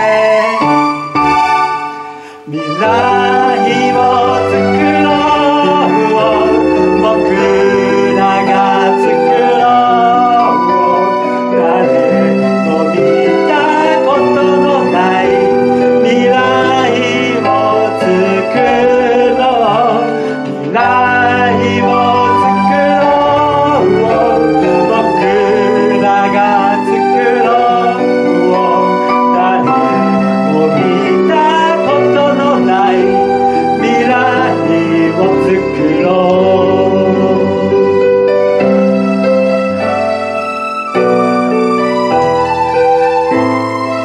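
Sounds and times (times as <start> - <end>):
man singing into a microphone: 0.0 - 1.6, 2.2 - 38.6
electric keyboard: 0.0 - 44.0.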